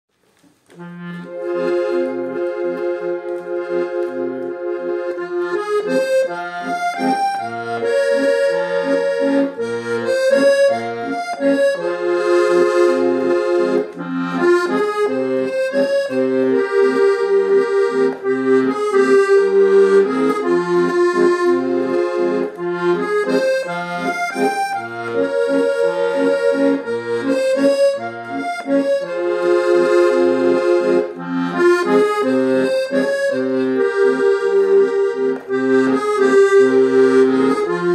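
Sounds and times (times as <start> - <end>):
accordion playing melody: 0.1 - 37.9.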